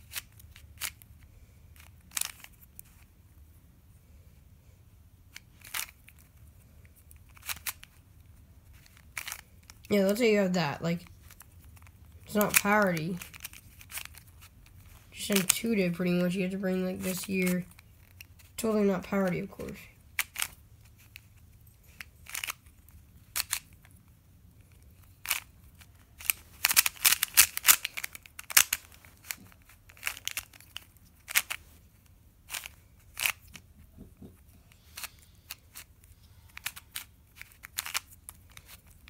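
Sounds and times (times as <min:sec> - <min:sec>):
plastic puzzle clicking and clacking: 0:00.0 - 0:01.2, 0:01.8 - 0:03.0, 0:05.3 - 0:10.2, 0:11.0 - 0:24.0, 0:24.6 - 0:39.0.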